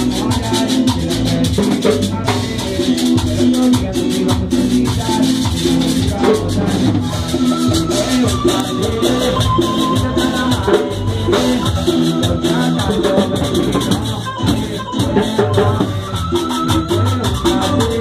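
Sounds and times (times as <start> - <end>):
latin dance band music: 0.0 - 18.0
rattling shaker percussion: 0.0 - 18.0.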